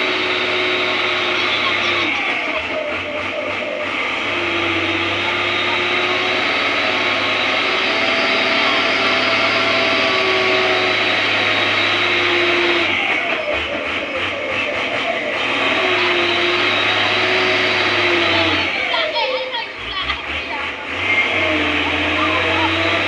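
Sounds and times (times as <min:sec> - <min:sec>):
truck engine running under load: 0:00.0 - 0:23.0.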